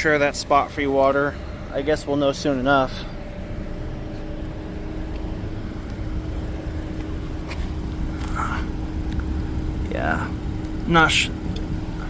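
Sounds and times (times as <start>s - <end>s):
car engine idling: 0.0s - 12.0s
faint steady hum: 0.0s - 12.0s.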